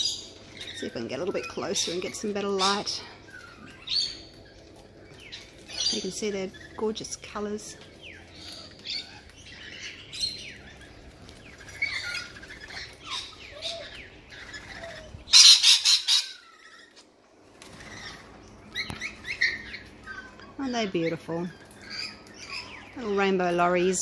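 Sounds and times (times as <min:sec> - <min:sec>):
parrots screeching and chattering: 0:00.0 - 0:24.0.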